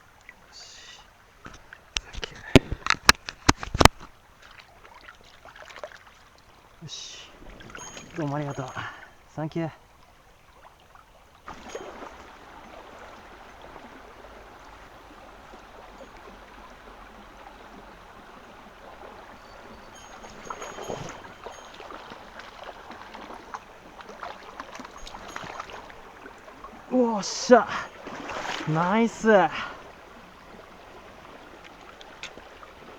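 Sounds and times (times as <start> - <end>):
stream water rushing: 0.0 - 32.9
knocks and splashes: 1.4 - 6.6, 7.4 - 9.3, 11.4 - 32.9.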